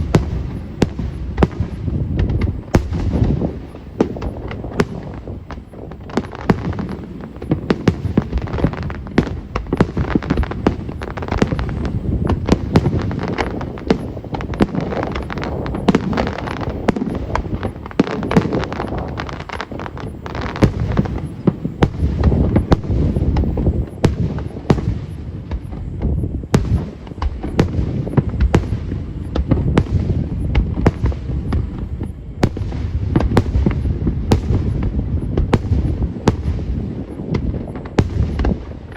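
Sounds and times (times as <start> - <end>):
crackling firework bursts: 0.0 - 38.9
firework booms: 0.0 - 38.9.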